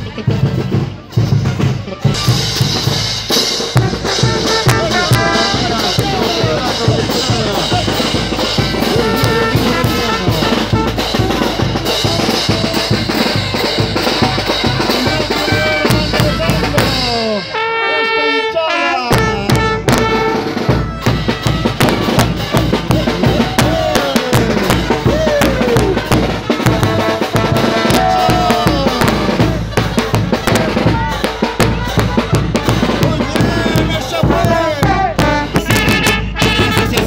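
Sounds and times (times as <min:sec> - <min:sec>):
bass drum beat: 0:00.0 - 0:17.2, 0:19.1 - 0:37.0
brass band playing: 0:00.0 - 0:37.0
cymbals: 0:00.0 - 0:37.0.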